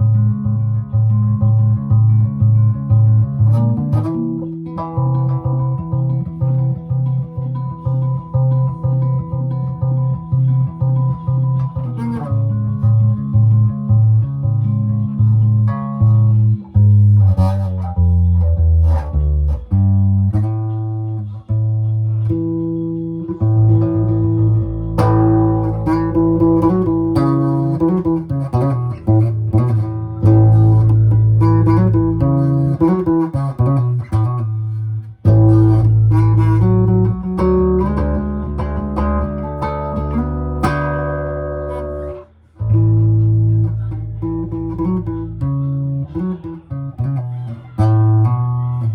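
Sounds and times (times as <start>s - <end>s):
plucked guitar music: 0.0s - 48.9s.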